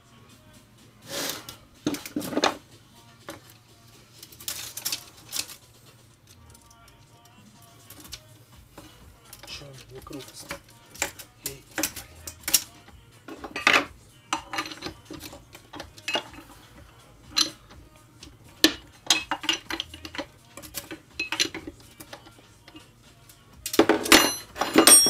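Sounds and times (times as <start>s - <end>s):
metal engine parts clinking: 1.9s - 2.6s, 3.3s - 23.0s, 23.6s - 25.0s.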